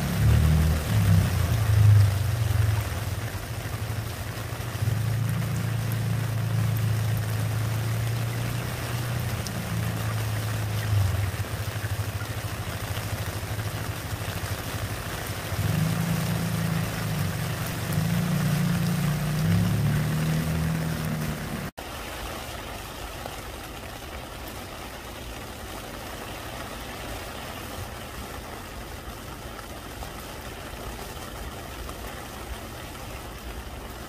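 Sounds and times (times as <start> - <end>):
rain splashing into a puddle: 0.0 - 34.0.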